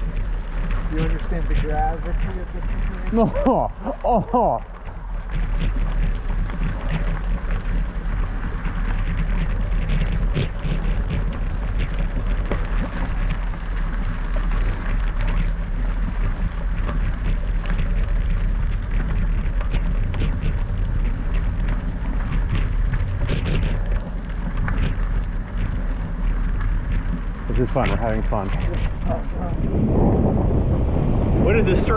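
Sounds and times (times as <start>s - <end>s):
tyres rolling over gravel: 0.0s - 31.9s
wind buffeting microphone: 0.0s - 31.9s.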